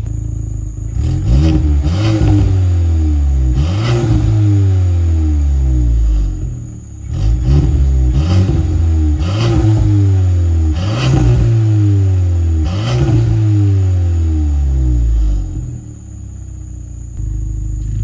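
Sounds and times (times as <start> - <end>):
car engine revving: 0.0 - 16.6
exhaust cracks: 0.0 - 18.0.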